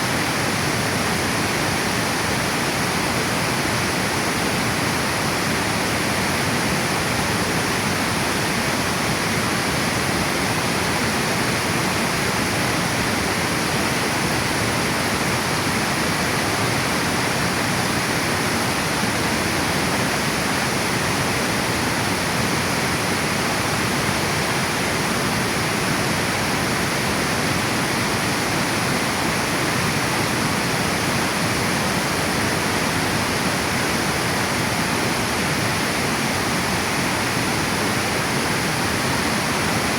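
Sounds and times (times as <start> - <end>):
water rushing over dam: 0.0 - 39.9.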